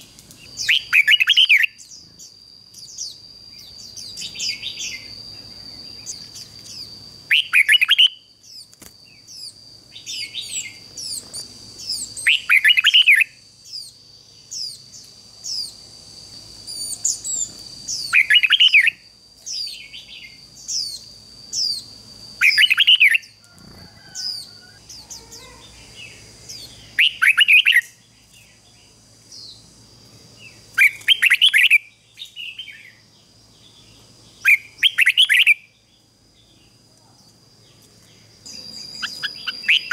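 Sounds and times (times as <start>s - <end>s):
bird singing song phrases: 0.0s - 39.9s
faint high chirps: 0.0s - 39.9s
steady high whine: 0.0s - 39.9s.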